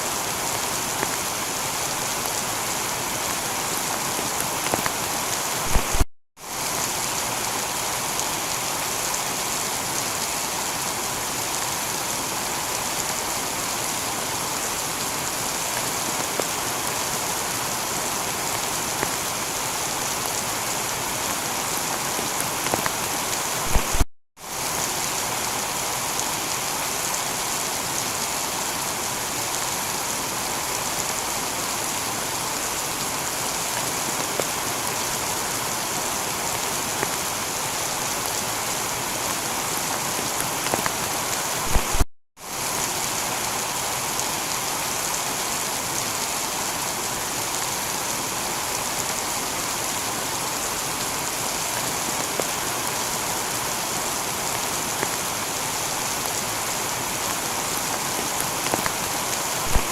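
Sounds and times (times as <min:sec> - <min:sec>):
heavy rain on a tiled roof: 0:00.0 - 0:59.9.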